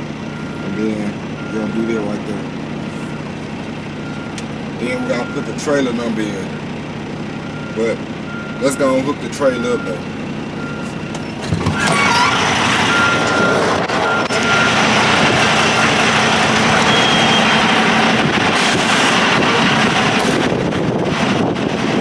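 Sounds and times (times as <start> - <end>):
reversing beeper: 0.0 - 3.3, 4.0 - 6.6, 7.4 - 20.5
trucks running: 0.0 - 22.0.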